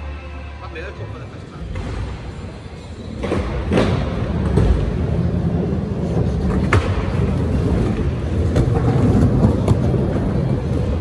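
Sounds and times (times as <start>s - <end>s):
skateboard wheels rolling on concrete: 2.1s - 11.0s.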